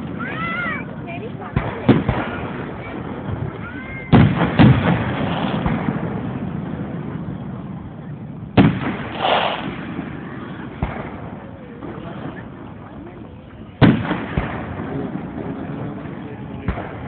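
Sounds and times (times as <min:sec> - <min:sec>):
firework shells booming: 0:00.0 - 0:17.0.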